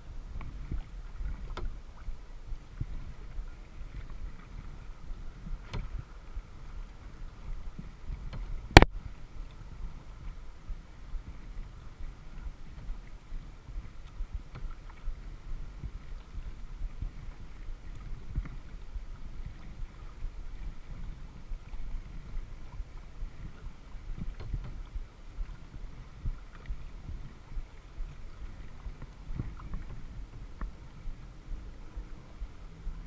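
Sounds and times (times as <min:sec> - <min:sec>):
low rumble: 0:00.0 - 0:33.0
water splashing against kayak hull: 0:00.0 - 0:33.0.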